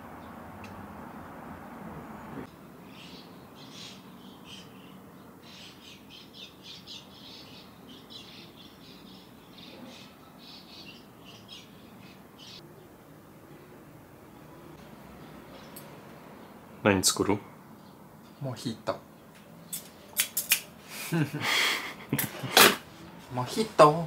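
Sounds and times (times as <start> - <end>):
small birds chirping: 0.0 - 21.4.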